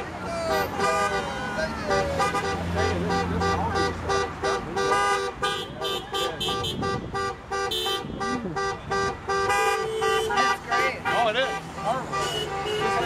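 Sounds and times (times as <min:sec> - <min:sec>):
car horns honking: 0:00.0 - 0:13.0.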